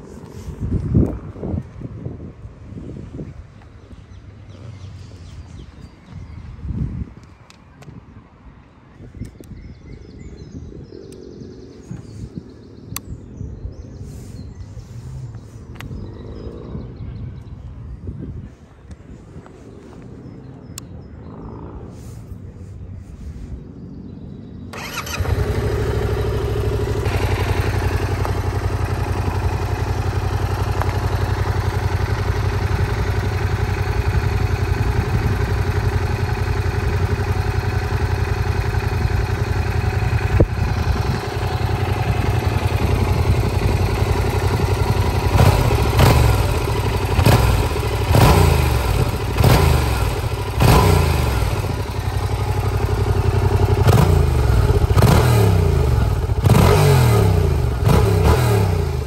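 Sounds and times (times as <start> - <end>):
motorcycle engine idling and revving: 0.0 - 8.0, 9.0 - 59.0.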